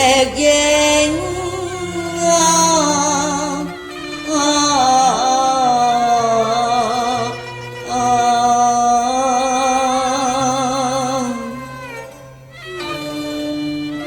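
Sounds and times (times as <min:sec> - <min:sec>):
musical accompaniment: 0:00.0 - 0:14.0
opera singing with vibrato: 0:00.0 - 0:14.0.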